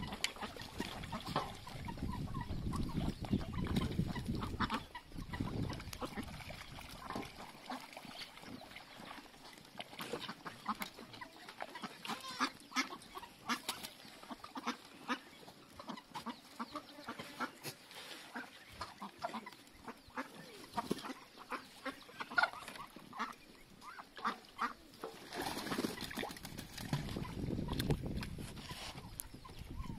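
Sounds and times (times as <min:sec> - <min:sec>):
ducks quacking: 0:00.0 - 0:26.3.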